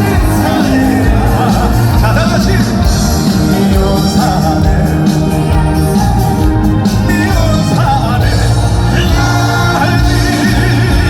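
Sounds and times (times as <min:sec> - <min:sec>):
amplified band with heavy bass: 0:00.0 - 0:11.0
man singing: 0:00.0 - 0:11.0.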